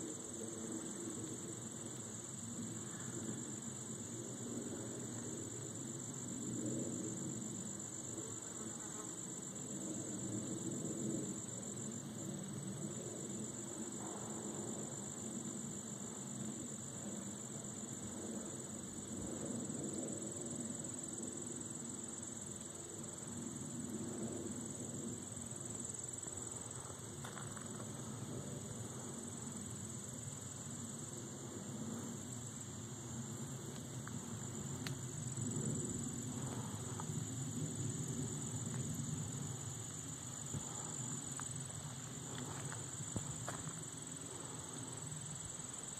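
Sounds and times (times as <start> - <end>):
high-pitched insect chorus: 0.0 - 45.9.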